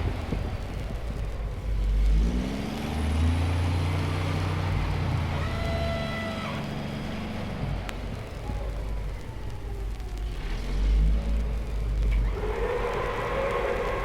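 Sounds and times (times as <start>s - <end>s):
engine rumbling and revving: 0.0s - 14.0s.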